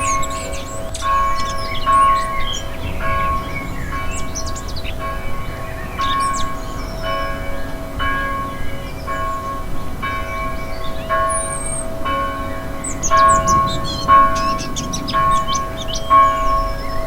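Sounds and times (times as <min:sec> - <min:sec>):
birds chirping: 0:00.0 - 0:17.0
church bell tolling: 0:00.0 - 0:17.0.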